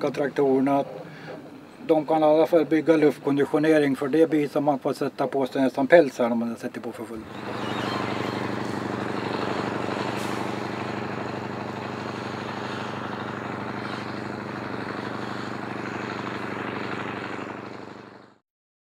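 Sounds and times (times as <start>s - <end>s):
diesel tractor engine under load: 0.0s - 3.8s, 6.8s - 18.4s.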